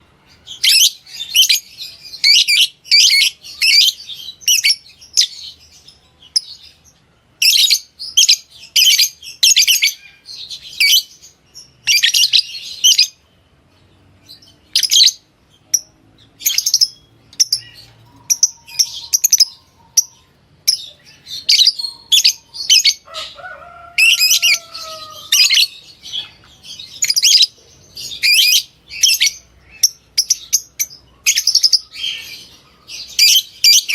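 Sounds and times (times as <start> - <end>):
lovebirds chirping: 0.0 - 33.9.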